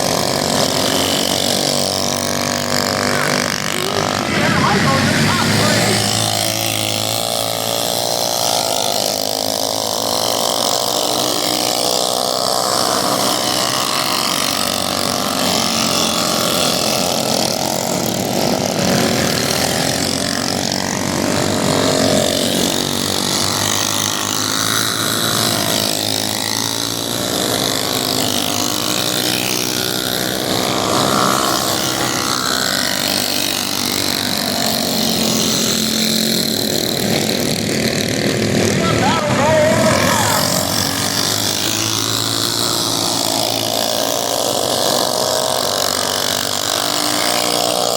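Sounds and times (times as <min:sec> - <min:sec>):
minibike engines revving: 0:00.0 - 0:47.9.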